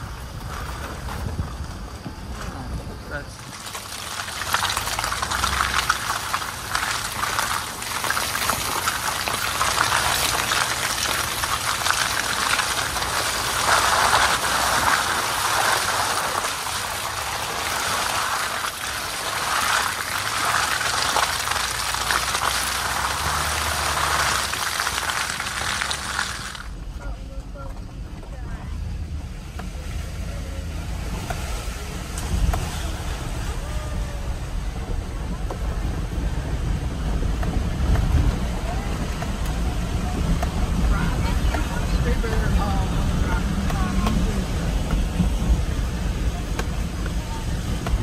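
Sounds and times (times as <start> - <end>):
low engine hum: 0.0 - 48.0
tyres splashing through mud: 3.1 - 27.1, 28.2 - 48.0
mud pattering: 3.3 - 27.0, 29.0 - 48.0.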